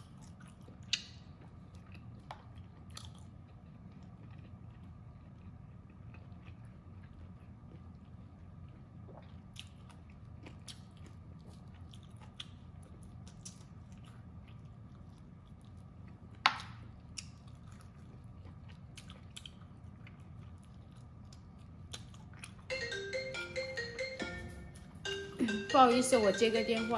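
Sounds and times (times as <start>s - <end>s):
biting and chewing: 0.0s - 22.8s
steady low hum: 0.0s - 26.9s.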